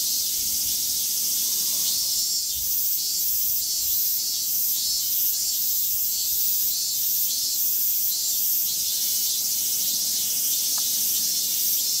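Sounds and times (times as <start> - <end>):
cicadas shrilling: 0.0 - 12.0.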